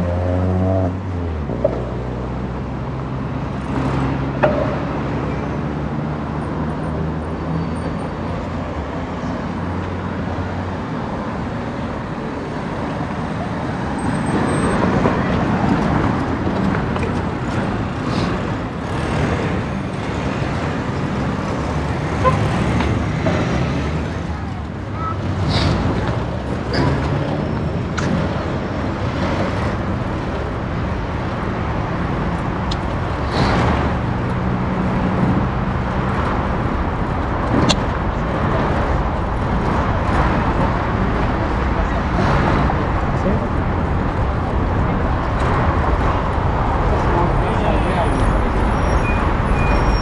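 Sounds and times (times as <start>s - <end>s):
traffic and road noise: 0.0s - 50.0s.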